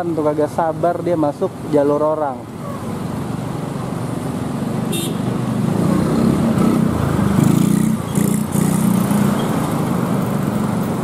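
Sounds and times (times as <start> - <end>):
car engines passing: 0.0 - 11.0
motorcycle engines passing: 1.8 - 11.0.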